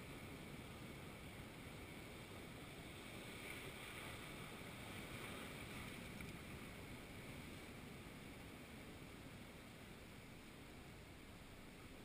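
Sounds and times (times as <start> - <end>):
ocean surf washing over rocks: 0.0 - 12.0
wind: 0.0 - 12.0.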